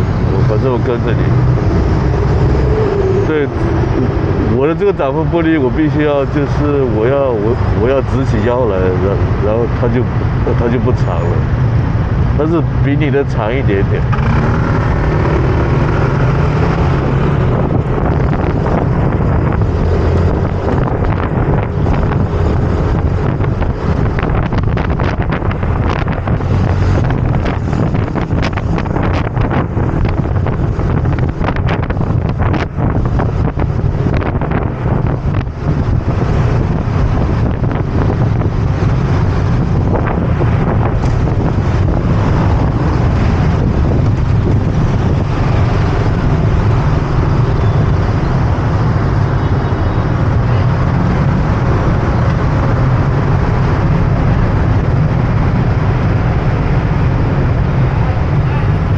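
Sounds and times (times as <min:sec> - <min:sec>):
road noise: 0:00.0 - 0:58.9
wind buffeting microphone: 0:00.0 - 0:58.9.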